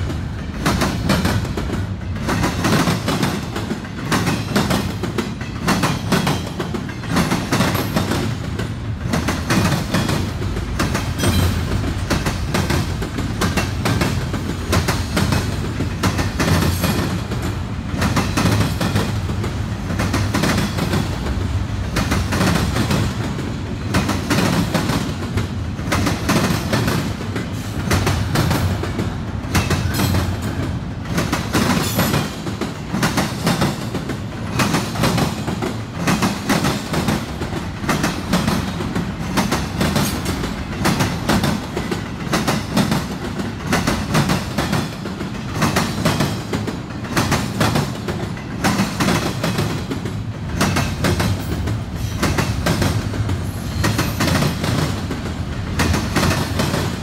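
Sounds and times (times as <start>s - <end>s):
freight train rumbling: 0.0s - 57.0s
train wheels clacking: 0.0s - 57.0s.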